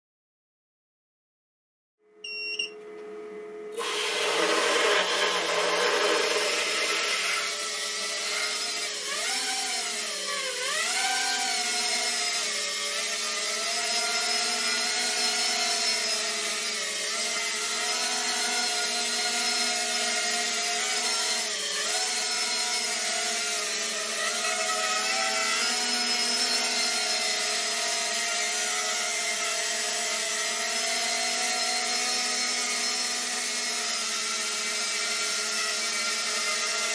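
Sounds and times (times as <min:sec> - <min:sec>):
quadcopter motors whining: 0:03.8 - 0:36.9.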